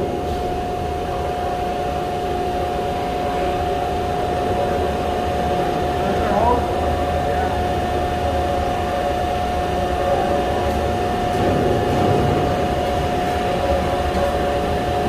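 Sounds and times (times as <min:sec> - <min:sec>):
shop machinery humming and whining: 0:00.0 - 0:15.0.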